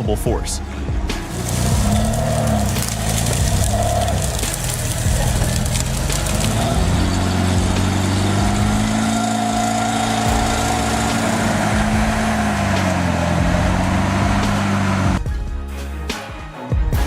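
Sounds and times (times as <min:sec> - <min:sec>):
car engine running under load: 0:00.6 - 0:15.2.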